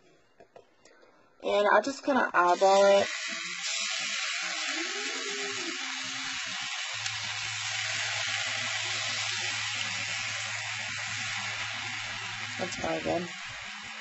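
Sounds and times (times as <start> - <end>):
cream sizzling in a frying pan: 2.4 - 14.0.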